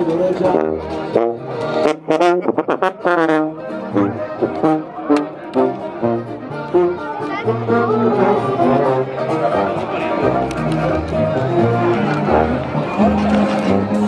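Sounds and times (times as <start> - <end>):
live brass music: 0.0 - 14.0.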